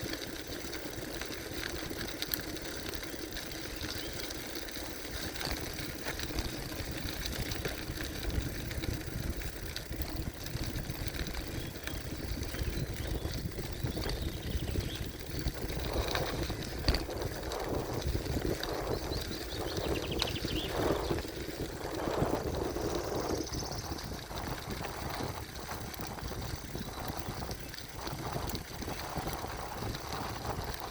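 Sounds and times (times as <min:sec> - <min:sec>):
bike tyres rumbling on dirt: 0:00.0 - 0:30.9.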